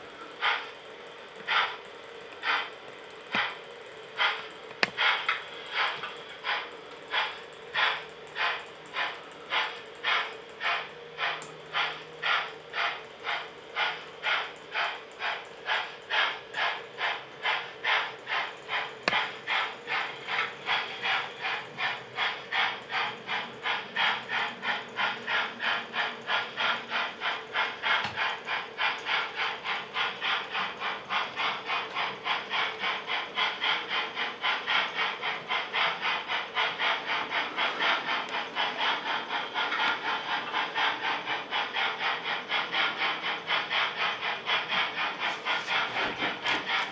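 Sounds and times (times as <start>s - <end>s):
steam locomotive chuffing: 0.0s - 46.9s.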